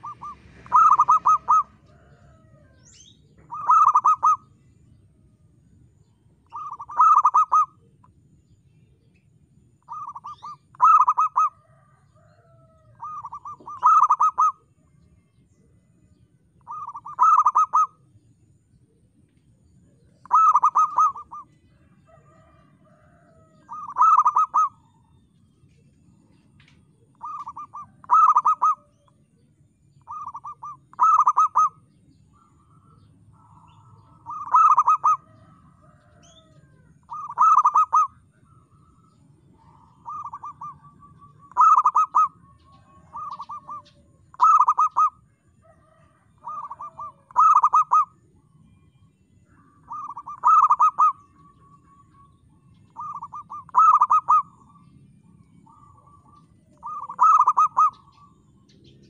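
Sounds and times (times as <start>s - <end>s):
dove cooing: 0.0s - 5.1s, 5.7s - 8.2s, 9.8s - 15.9s, 16.6s - 29.4s, 30.0s - 48.9s, 49.5s - 59.0s.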